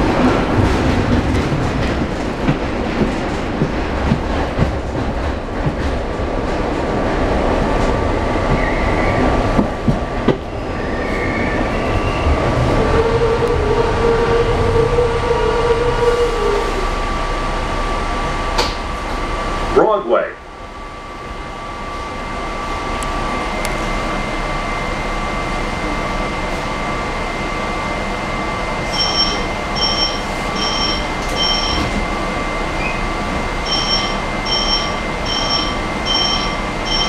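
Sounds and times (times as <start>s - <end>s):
train wheels rumbling on rails: 0.0s - 19.9s, 20.8s - 37.0s.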